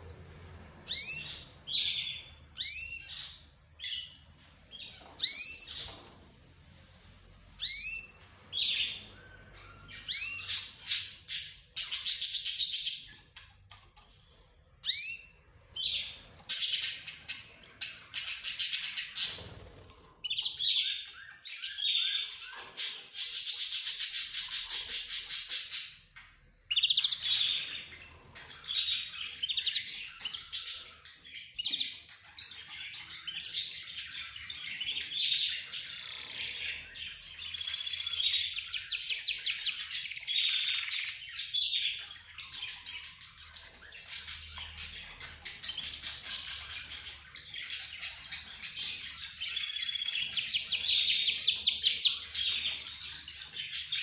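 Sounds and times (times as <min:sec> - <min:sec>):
cage birds chirping and calling: 0:00.0 - 0:54.0.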